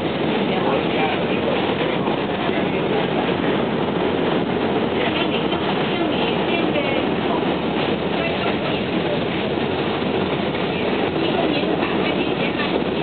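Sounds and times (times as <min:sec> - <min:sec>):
subway train running on track: 0:00.0 - 0:13.0.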